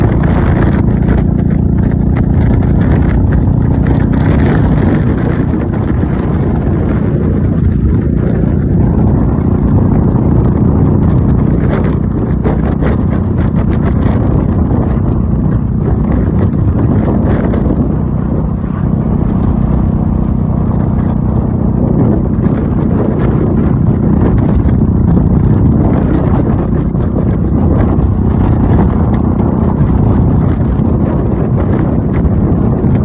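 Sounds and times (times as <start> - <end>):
motorcycle engine running: 0.0 - 33.0
road rumble: 0.0 - 33.0
wind noise: 0.0 - 33.0.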